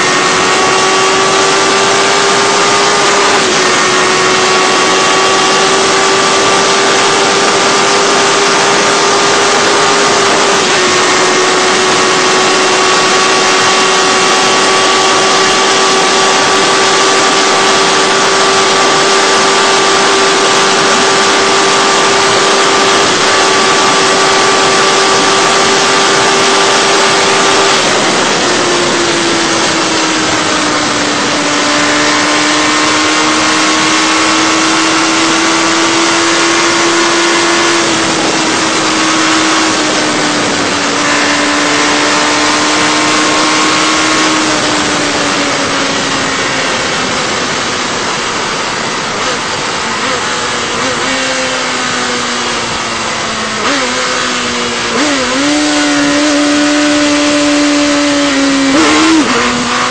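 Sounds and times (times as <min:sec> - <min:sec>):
motorcycle engine at high revs: 0:00.0 - 0:59.9
wind rush on microphone: 0:00.0 - 0:59.9.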